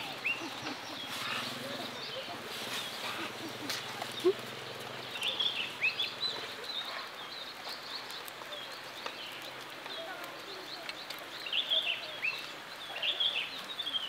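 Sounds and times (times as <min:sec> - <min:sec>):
birds chirping: 0:00.0 - 0:14.0
outdoor background hiss: 0:00.0 - 0:14.0.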